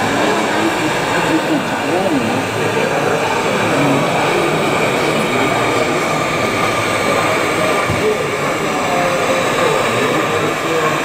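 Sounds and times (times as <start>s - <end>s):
model train running on track: 0.0s - 11.0s
steady rushing noise: 0.0s - 11.0s.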